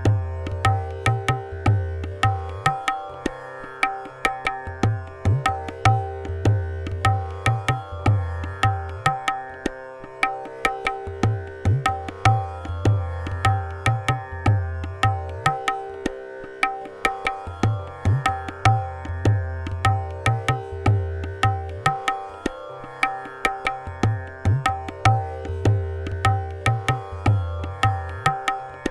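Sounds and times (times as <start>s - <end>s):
tabla playing: 0.0s - 28.9s
tanpura drone: 0.0s - 28.9s.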